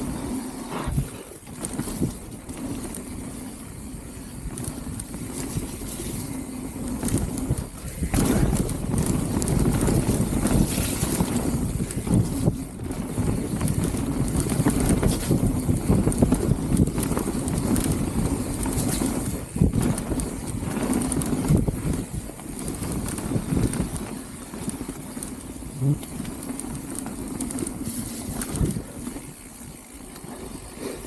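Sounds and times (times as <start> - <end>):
bike knocking and rattling: 0.0 - 31.0
bike tyres rumbling on dirt: 0.0 - 31.0.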